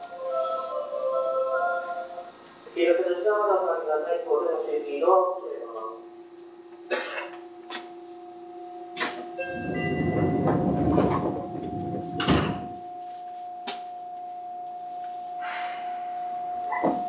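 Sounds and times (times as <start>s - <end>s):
train electrical hum: 0.0s - 17.0s.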